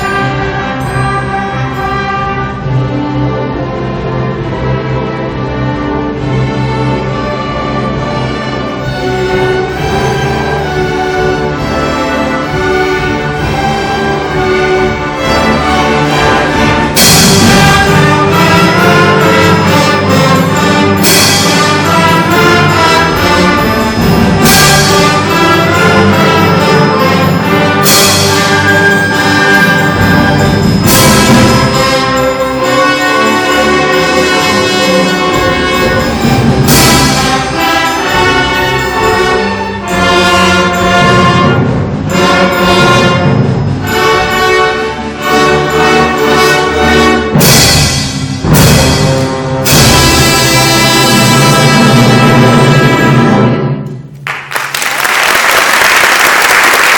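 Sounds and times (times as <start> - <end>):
brass: 0.0 - 54.4
symphony orchestra playing loudly: 0.0 - 56.9.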